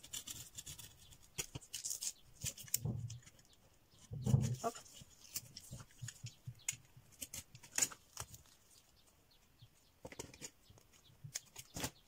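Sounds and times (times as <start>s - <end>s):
paper and tape rustling: 0.0s - 9.2s, 10.0s - 12.0s.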